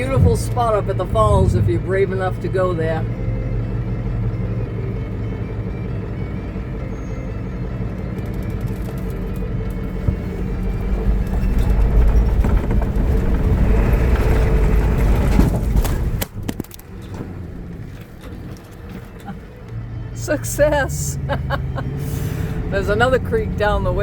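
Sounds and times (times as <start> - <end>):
vehicle engine: 0.0 - 24.0
vehicle rattles: 0.0 - 24.0.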